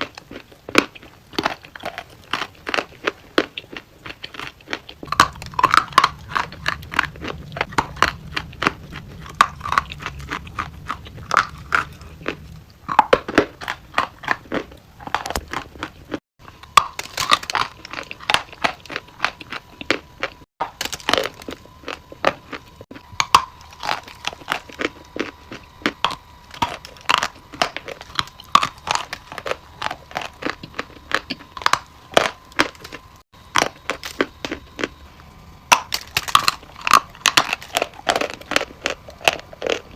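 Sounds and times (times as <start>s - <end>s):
brittle material crunching: 0.0s - 35.0s, 35.7s - 39.9s.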